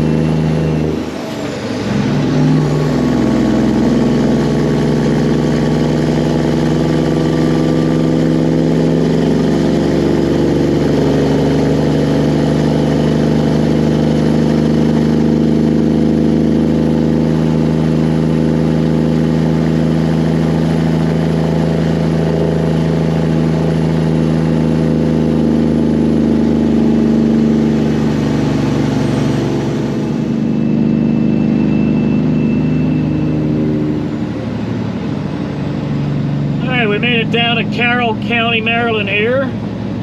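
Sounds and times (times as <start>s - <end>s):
truck diesel engine drone: 0.0s - 40.0s.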